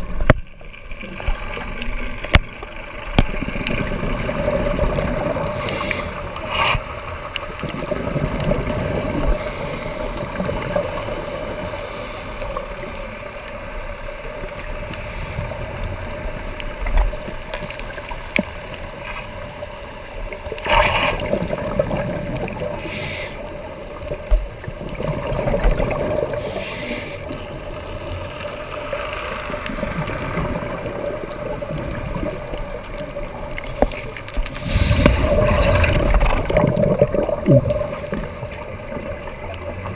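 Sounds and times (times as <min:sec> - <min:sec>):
low underwater rumble and hum: 0:00.0 - 0:39.9
regulator bubbles gurgling: 0:00.0 - 0:39.9.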